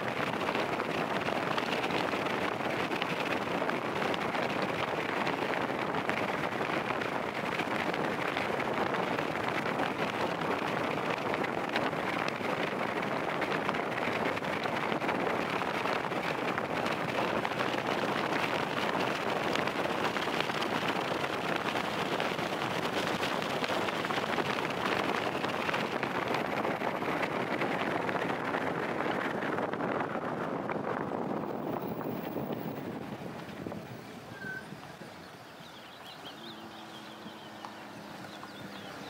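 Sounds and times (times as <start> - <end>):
rushing wind: 0.0 - 39.0
vehicle road noise: 0.0 - 39.0.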